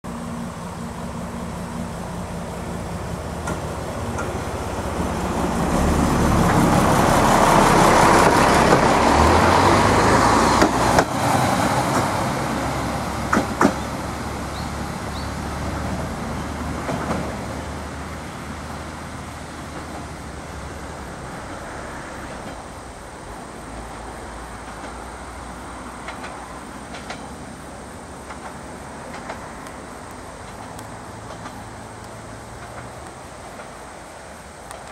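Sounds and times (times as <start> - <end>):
diesel railcar engine: 0.0 - 34.9
wheels clacking over rail joints: 0.1 - 34.9.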